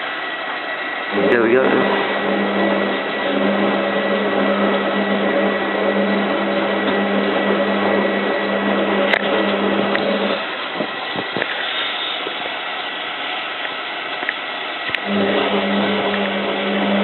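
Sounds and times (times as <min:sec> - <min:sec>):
washing machine drum humming: 0:00.0 - 0:17.0.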